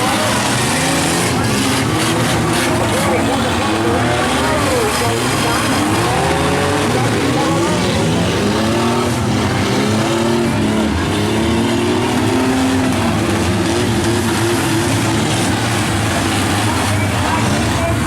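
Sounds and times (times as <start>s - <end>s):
engines revving: 0.0s - 18.0s
noisy din: 0.0s - 18.0s.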